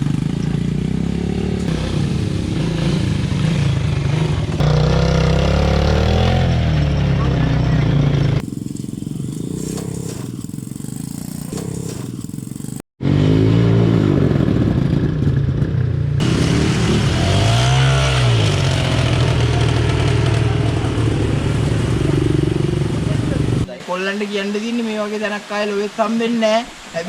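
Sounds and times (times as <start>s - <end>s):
small engine running and revving: 0.0s - 15.3s, 16.2s - 23.7s.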